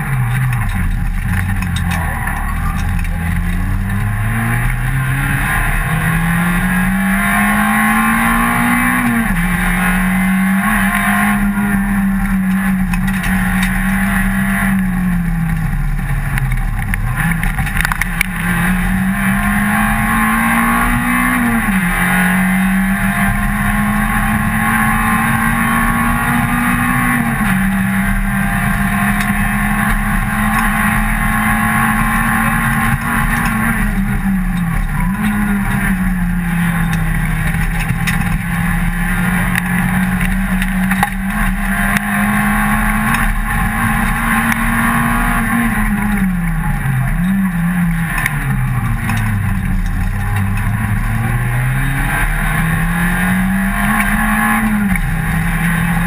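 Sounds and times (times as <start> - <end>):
rally car engine from inside: 0.0 - 56.0.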